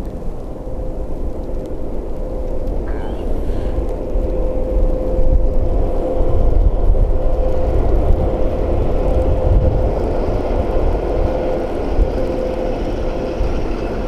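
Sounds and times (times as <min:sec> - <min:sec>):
train passing at speed: 0:00.2 - 0:14.0.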